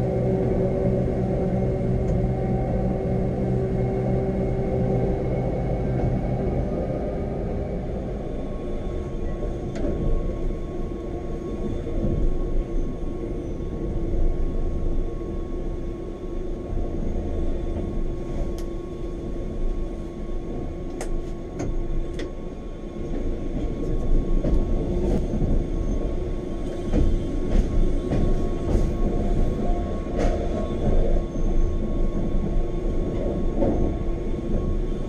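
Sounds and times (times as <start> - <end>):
electric train rumbling: 0.0 - 35.0.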